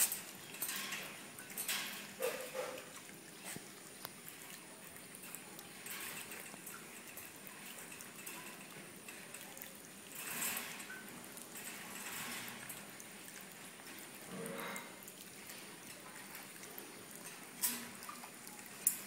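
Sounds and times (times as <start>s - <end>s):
animals scuffling in wire cage: 0.0s - 19.0s.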